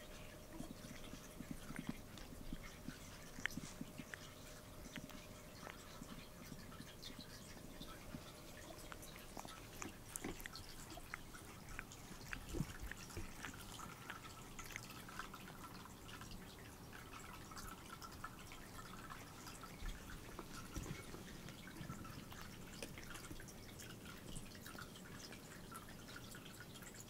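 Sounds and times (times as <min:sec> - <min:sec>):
cat tongue licking clicks: 0:00.1 - 0:27.0.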